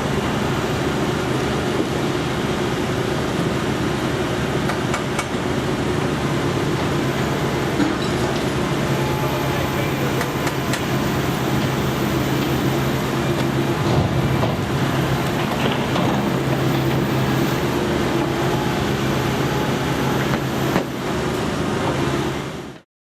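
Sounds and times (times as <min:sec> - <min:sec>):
engine humming: 0:00.0 - 0:22.0
street noise: 0:00.0 - 0:22.8.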